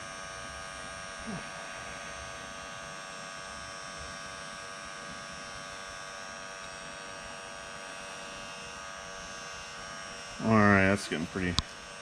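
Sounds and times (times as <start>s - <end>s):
heat gun fan humming: 0.0s - 12.0s.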